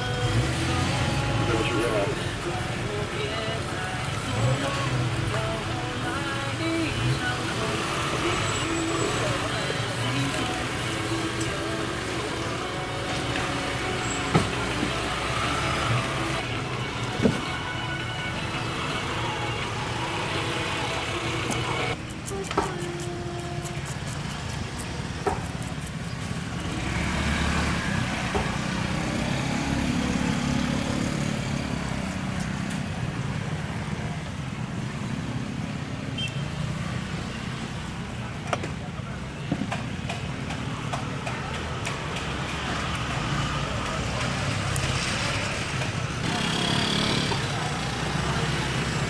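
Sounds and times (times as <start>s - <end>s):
traffic noise: 0.0s - 49.0s
vehicle engine rumble: 0.0s - 49.0s.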